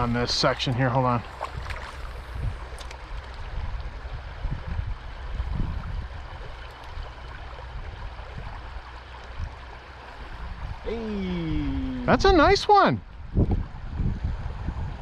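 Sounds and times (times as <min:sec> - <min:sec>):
low rumbles and thumps: 0:00.0 - 0:10.9, 0:13.0 - 0:15.0
stream water rushing: 0:00.0 - 0:15.0.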